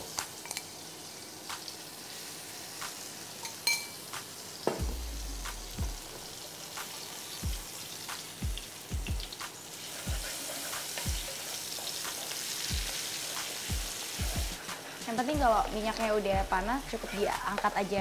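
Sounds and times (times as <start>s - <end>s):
cheese sizzling in oil: 0.0s - 18.0s.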